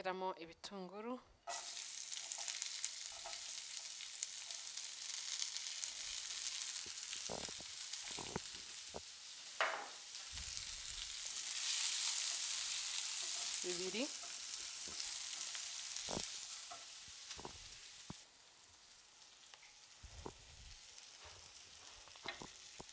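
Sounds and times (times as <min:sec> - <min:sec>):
onions sizzling in hot oil: 0:01.4 - 0:22.9.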